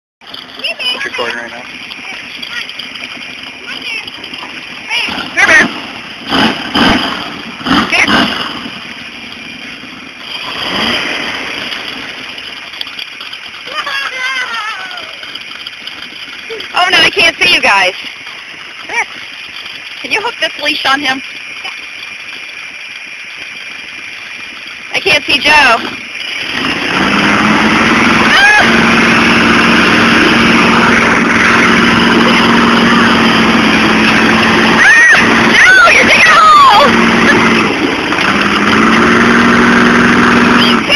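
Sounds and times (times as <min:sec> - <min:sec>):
tires spinning in dirt: 0:00.2 - 0:40.9
truck engine revving: 0:00.2 - 0:40.9.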